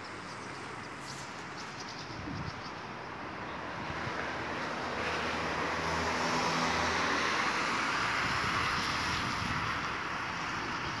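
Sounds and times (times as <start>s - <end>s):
hiss of passing vehicles: 0.0s - 11.0s.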